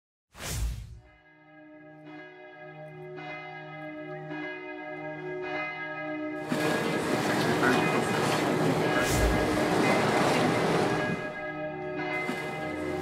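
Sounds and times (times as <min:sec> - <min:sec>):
church bells ringing: 0:01.2 - 0:13.0.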